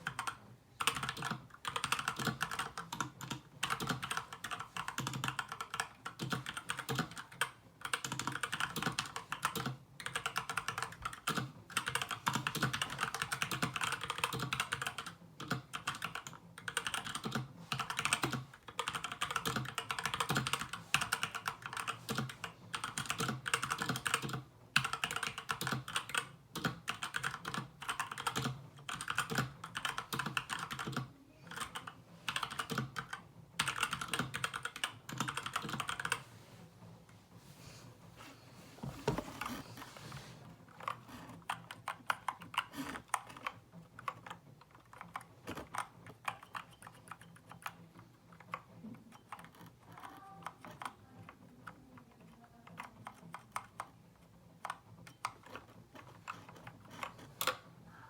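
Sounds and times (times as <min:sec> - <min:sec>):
fast typing on mechanical keyboard: 0:00.0 - 0:36.2, 0:40.7 - 0:57.6.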